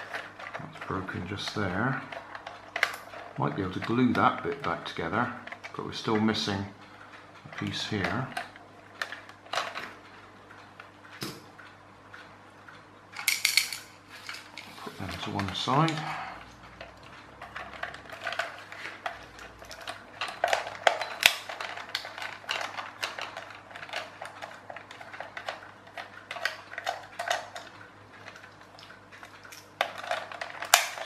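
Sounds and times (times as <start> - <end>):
plastic toy clicks and scrapes: 0.0 - 6.6, 7.5 - 10.0, 13.2 - 31.0.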